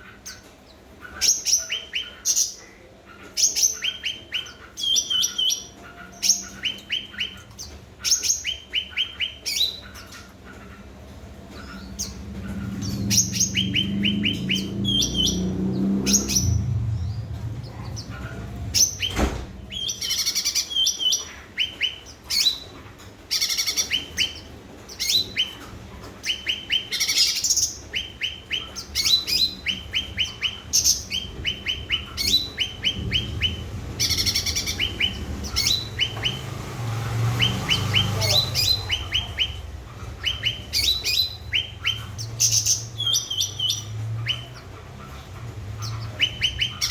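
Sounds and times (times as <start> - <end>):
songbird chirping: 0.0 - 46.9.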